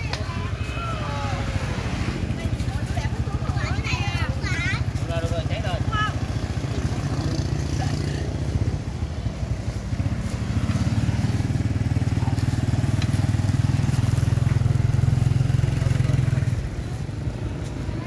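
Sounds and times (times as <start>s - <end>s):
motorbike engine running: 0.0s - 18.0s.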